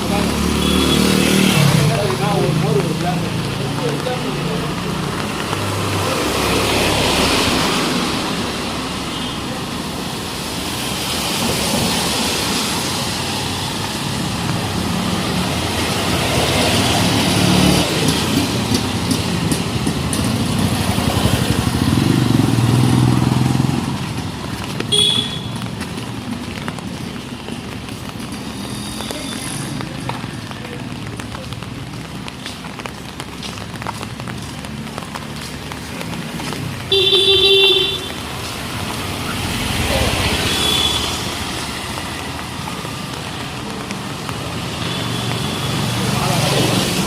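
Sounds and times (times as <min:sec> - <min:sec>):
cars passing: 0:00.0 - 0:47.0
motorcycles passing: 0:00.0 - 0:47.0.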